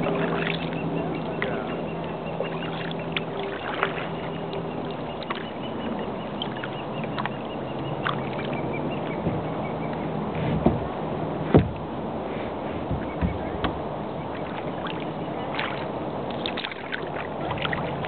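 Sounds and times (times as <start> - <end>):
birds calling: 0.0 - 10.9, 12.4 - 18.0
boat motor humming: 0.0 - 18.0.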